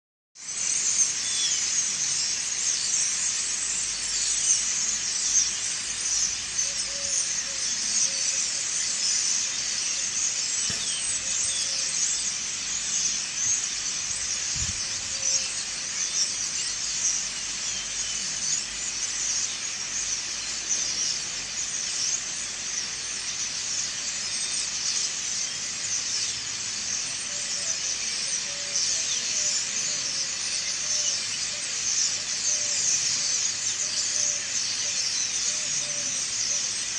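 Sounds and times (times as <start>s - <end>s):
flock of small birds chirping: 0.4s - 36.9s.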